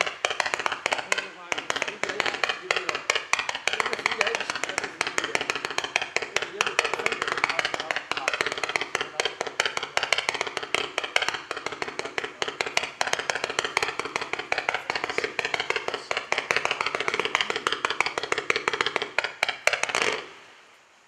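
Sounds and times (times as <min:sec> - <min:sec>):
firework shots popping: 0:00.0 - 0:20.4.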